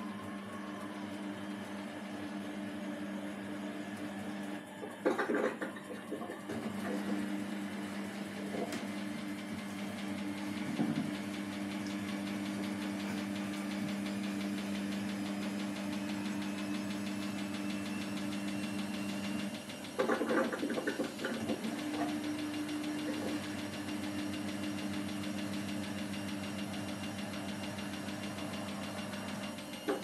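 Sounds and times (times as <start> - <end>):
washing machine motor humming: 0.0 - 30.0.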